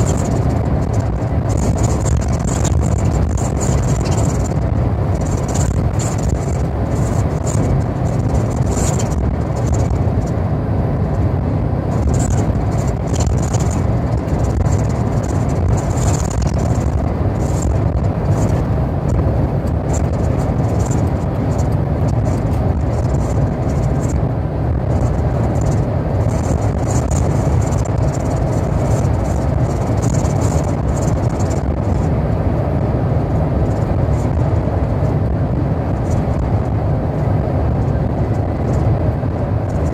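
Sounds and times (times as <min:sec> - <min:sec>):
vehicle road noise rumble: 0:00.0 - 0:39.9.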